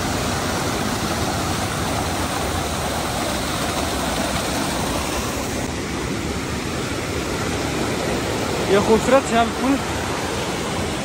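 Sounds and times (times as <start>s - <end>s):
waterfall cascading over rocks: 0.0s - 11.0s.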